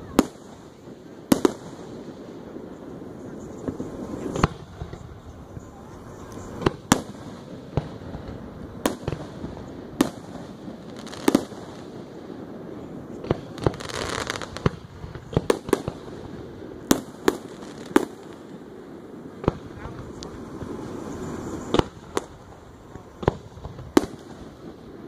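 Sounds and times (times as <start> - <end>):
fireworks bangs: 0.0 - 25.0
hissing crackle: 0.0 - 25.0.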